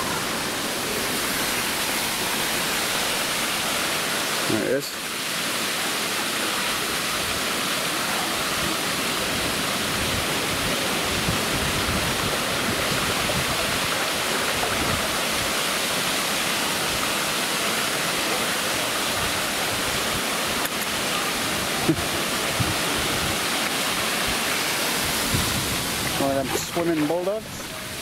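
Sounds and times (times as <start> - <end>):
waterfall splashing into pool: 0.0 - 28.0.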